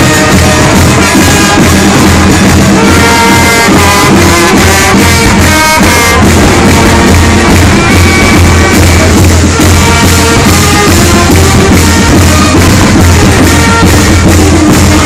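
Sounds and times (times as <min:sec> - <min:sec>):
festive brass music with beat: 0:00.0 - 0:15.0.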